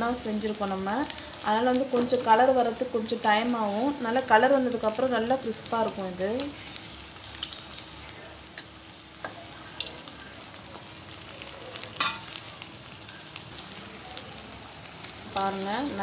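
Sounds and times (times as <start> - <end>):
potatoes sizzling in hot oil: 0.0 - 16.0
oil crackles: 0.1 - 16.0.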